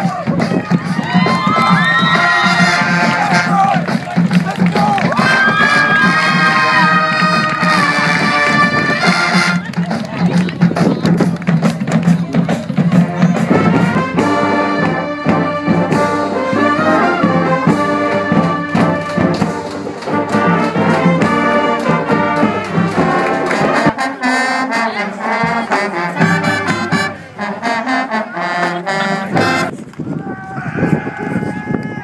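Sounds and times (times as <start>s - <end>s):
trumpets: 0.0s - 11.3s, 12.8s - 32.0s
brass band playing: 0.0s - 29.8s
trombones: 2.0s - 29.8s.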